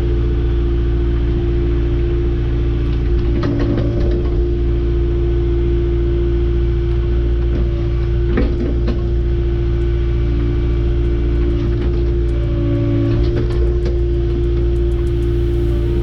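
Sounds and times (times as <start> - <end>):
diesel engine of earthmoving machine: 0.0 - 16.0.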